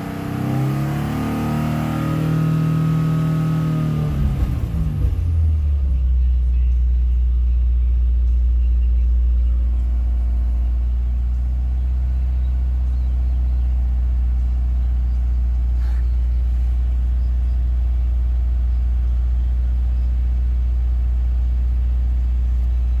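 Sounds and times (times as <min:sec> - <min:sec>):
car engine idling rumble: 0:02.8 - 0:23.0.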